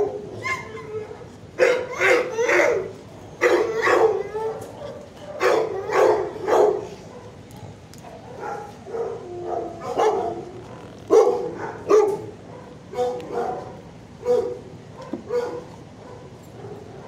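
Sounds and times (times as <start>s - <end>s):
dog yelping: 0.0s - 7.4s, 8.0s - 17.0s
dog barking: 0.0s - 17.0s.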